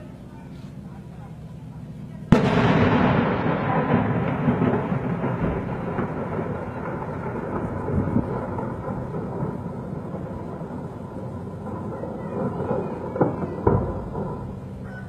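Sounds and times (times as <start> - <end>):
explosion rumble and echo: 2.2 - 15.0.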